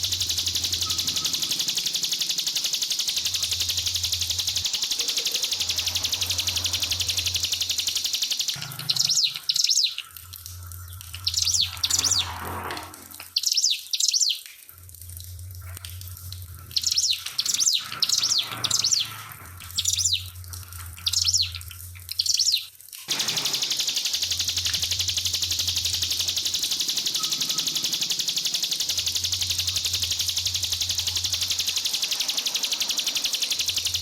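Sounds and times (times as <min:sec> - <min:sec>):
bird high chirping: 0:00.0 - 0:10.1, 0:11.1 - 0:12.3, 0:13.3 - 0:14.4, 0:16.7 - 0:20.3, 0:21.0 - 0:21.6, 0:22.2 - 0:34.0
trickling water: 0:00.0 - 0:34.0.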